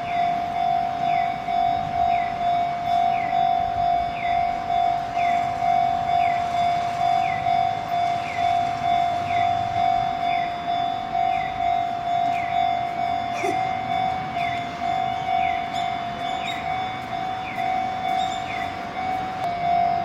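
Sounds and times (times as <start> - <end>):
electronic bell tone repeating: 0.0 - 20.0.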